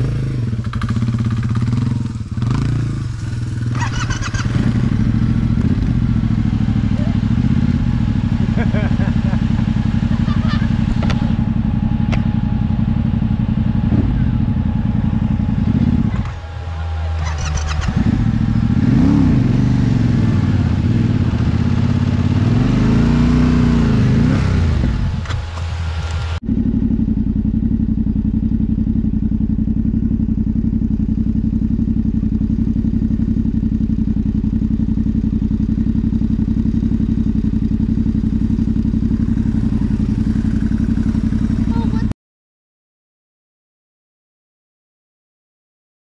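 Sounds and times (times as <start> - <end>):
motorcycle engine idling: 0.0 - 42.1
motorcycle engine revving: 0.0 - 42.1.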